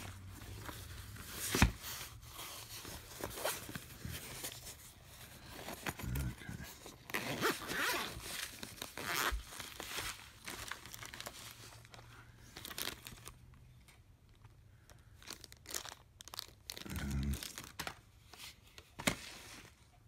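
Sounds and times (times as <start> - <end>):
packaging and paper crinkling: 0.0 - 19.8.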